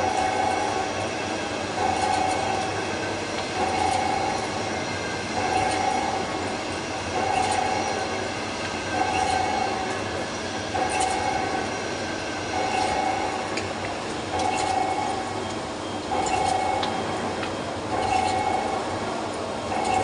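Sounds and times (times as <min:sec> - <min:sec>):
lathe machining metal: 0:00.0 - 0:20.0.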